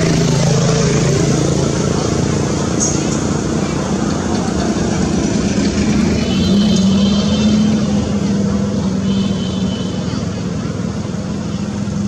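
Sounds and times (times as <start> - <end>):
broad rushing noise: 0.0 - 12.0
vehicle engine humming: 0.0 - 12.0.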